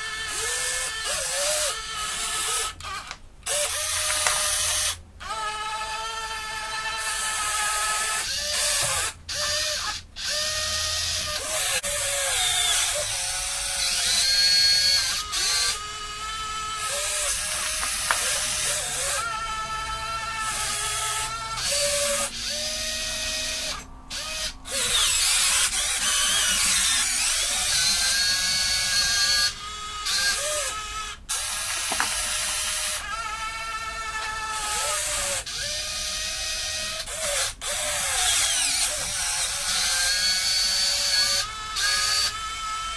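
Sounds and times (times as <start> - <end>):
small electric motors whining: 0.0 - 42.9.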